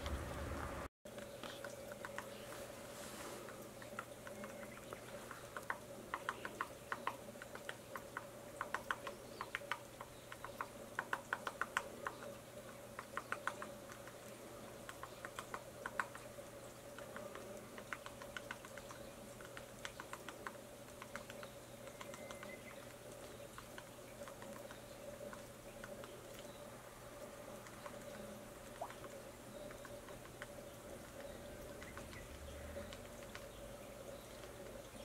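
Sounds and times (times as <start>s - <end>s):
woodpecker tapping on bark: 1.1s - 2.7s, 3.5s - 35.0s.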